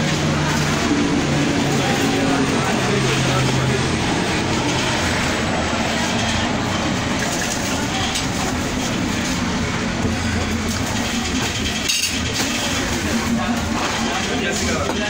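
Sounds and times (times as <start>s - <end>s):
machinery rumbling: 0.0s - 15.0s.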